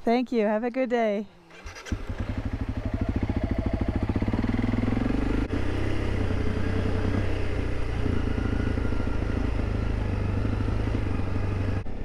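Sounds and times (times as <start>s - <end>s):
motorcycle engine revving: 1.4s - 12.0s.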